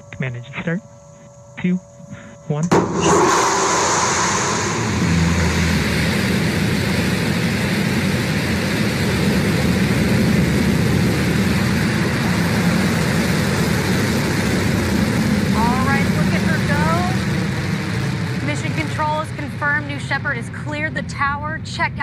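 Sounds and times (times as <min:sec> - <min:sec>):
rocket engine firing: 0:02.6 - 0:22.0.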